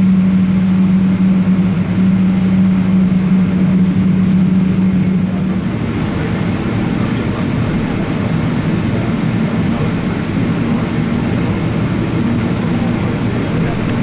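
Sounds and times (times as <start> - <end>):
aircraft cabin rush: 0.0 - 14.0
low hum: 0.0 - 14.0.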